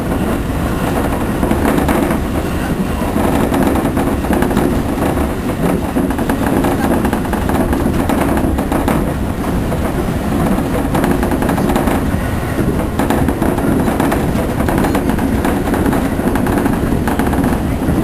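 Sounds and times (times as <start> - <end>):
train clattering rattle: 0.0 - 18.0
train running rumble: 0.0 - 18.0.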